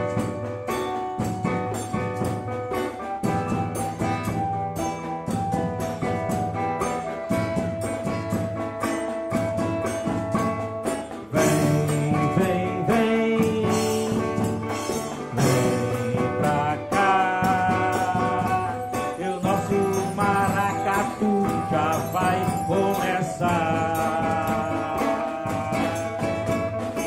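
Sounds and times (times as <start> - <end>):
drum-driven melodic music: 0.0 - 27.0.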